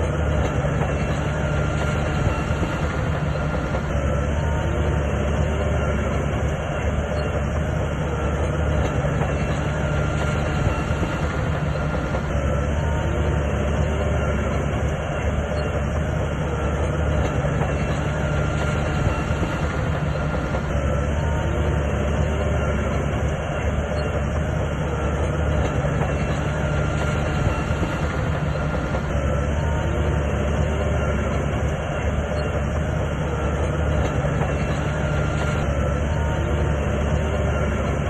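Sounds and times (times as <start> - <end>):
diesel engine running: 0.0 - 38.0
steel tracks clanking: 0.0 - 38.0.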